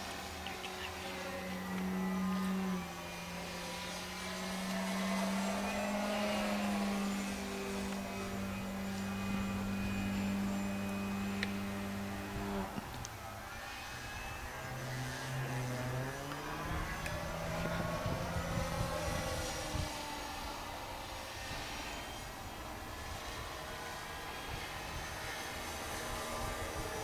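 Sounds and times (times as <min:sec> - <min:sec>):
model plane propeller droning: 0:00.0 - 0:27.0.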